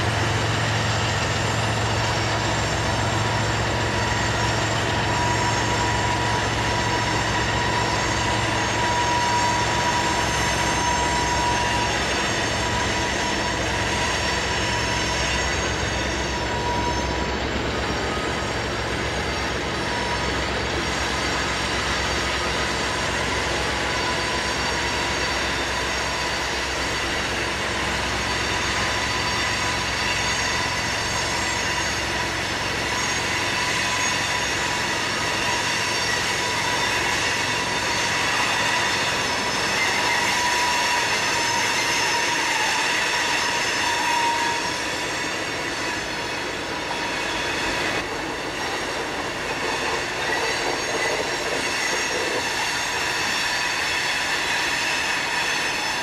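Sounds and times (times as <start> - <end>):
diesel locomotives rumbling: 0.0 - 56.0
train wheels squealing: 0.0 - 56.0.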